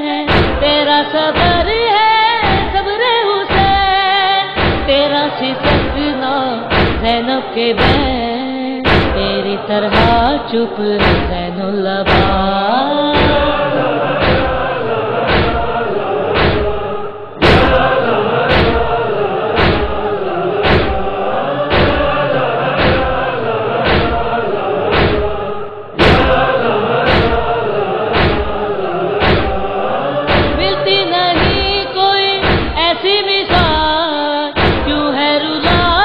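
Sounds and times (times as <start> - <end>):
voices chanting mournful melody: 0.0 - 36.0
chest-beating thumps: 0.3 - 2.9, 3.5 - 3.9, 4.6 - 34.0, 34.6 - 35.0, 35.6 - 36.0.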